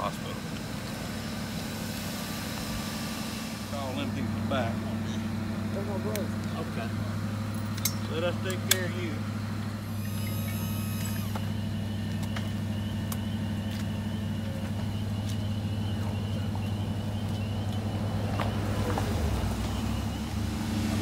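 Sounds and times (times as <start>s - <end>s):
ambulance engine idling: 0.0s - 21.0s.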